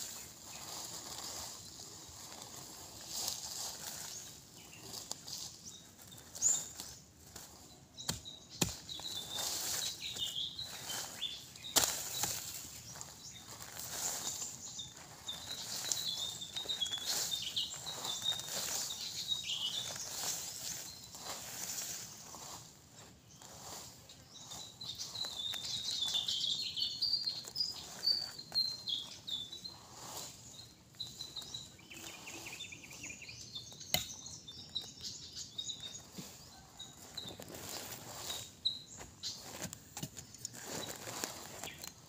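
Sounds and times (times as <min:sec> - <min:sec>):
birds chirping: 0:00.0 - 0:42.0
blade digging into soil: 0:00.1 - 0:22.8, 0:23.4 - 0:26.6, 0:27.2 - 0:35.0, 0:37.0 - 0:42.0.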